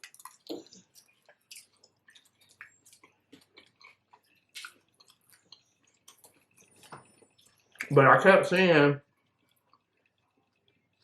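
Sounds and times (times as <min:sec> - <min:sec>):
person chewing wet smacks: 0:00.0 - 0:08.0, 0:09.1 - 0:11.0.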